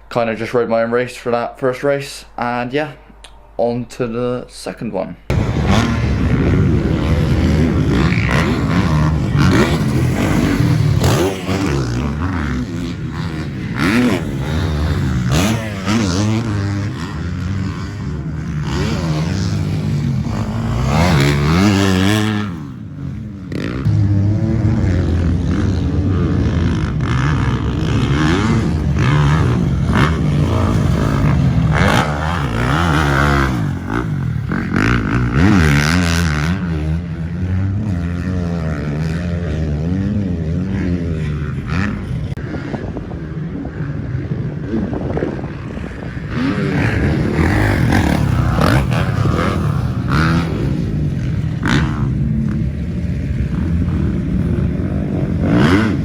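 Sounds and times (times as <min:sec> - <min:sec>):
motocross bike engine revving: 0:05.3 - 0:56.0.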